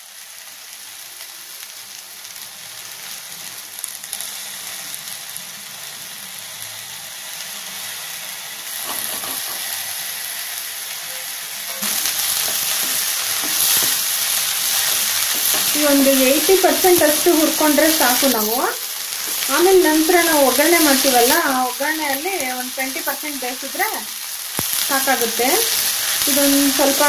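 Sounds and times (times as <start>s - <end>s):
okra sizzling in hot oil: 0.0s - 27.0s.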